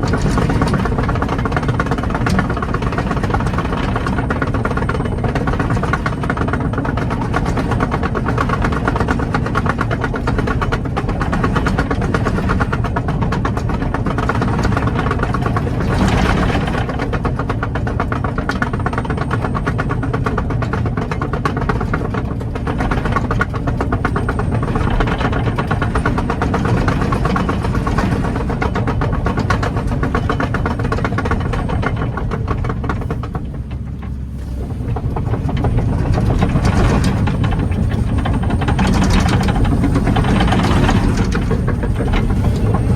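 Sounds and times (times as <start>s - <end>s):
excavator diesel engine running: 0.0s - 42.9s
fine rapid clatter: 0.0s - 42.9s.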